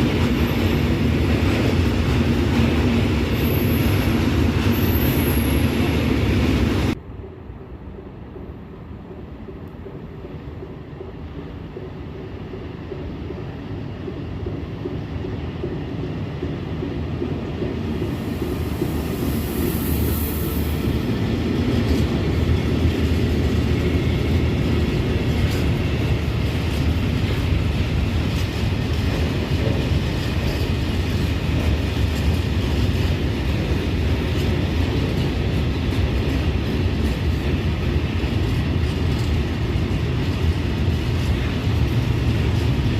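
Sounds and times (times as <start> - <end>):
train rumbling on rails: 0.0 - 42.9.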